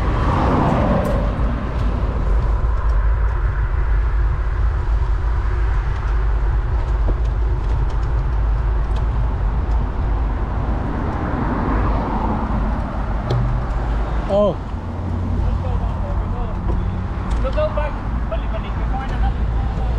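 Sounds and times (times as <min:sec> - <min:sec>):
tyres rushing on road: 0:00.0 - 0:19.9
wind rumble on microphone: 0:00.0 - 0:19.9.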